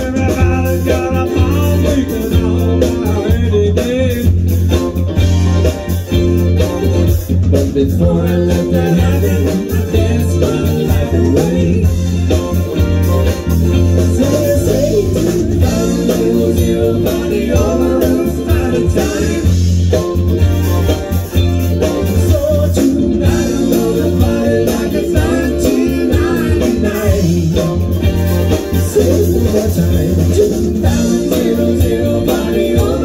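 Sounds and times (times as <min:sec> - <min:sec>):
bass line: 0:00.0 - 0:33.0
electric guitars: 0:00.0 - 0:33.0.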